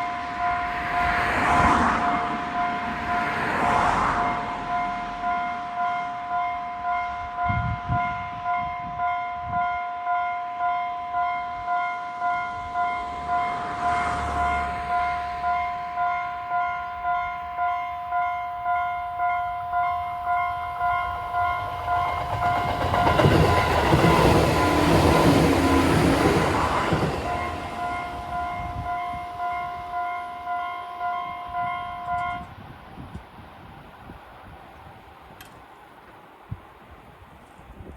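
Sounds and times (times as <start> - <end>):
level crossing warning bell: 0.0 - 32.6.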